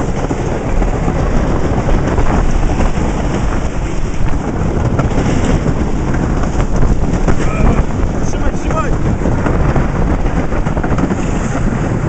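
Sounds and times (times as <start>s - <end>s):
roller coaster rumbling and rattling: 0.0s - 12.0s
wind buffeting microphone: 0.0s - 12.0s.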